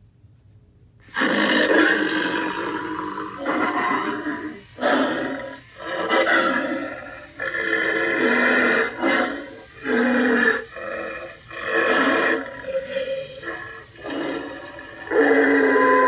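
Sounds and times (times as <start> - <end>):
recorded werewolf vocal effects: 1.0 - 16.0.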